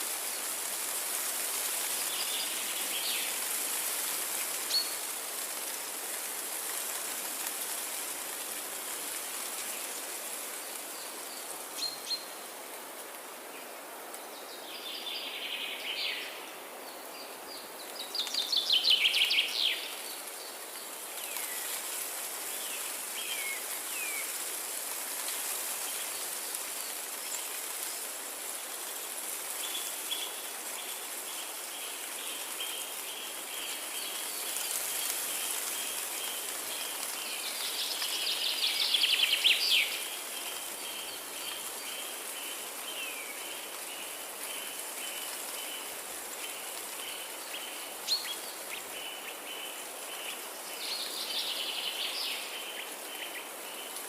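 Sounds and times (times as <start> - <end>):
background insects hissing: 0.0 - 54.0.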